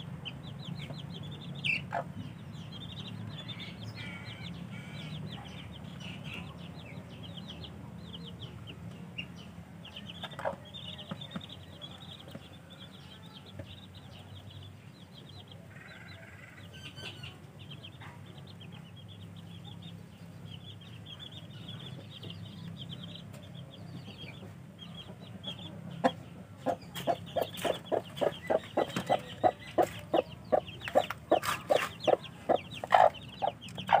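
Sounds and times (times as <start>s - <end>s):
baby chicks peeping: 0.0s - 34.0s.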